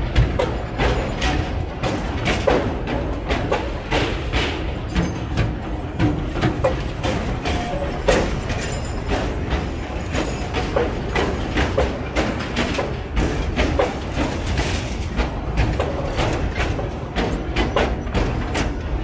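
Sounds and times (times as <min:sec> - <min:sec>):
train wagons rumbling past: 0:00.0 - 0:19.0
wagons clattering over rails: 0:00.0 - 0:19.0.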